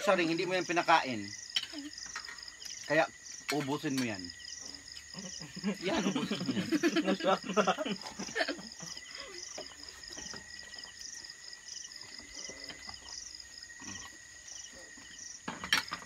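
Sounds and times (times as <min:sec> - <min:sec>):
high-pitched insect trill: 0:00.0 - 0:16.0
night insects chirping: 0:00.0 - 0:16.0.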